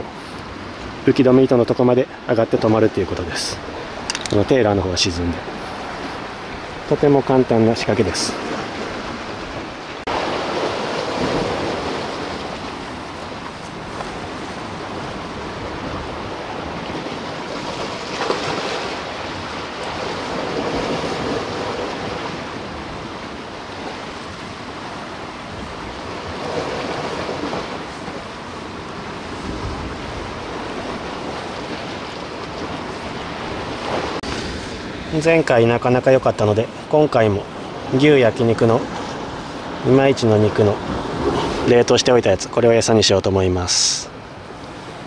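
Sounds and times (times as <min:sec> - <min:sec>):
waves washing against rocks: 0:00.0 - 0:42.3.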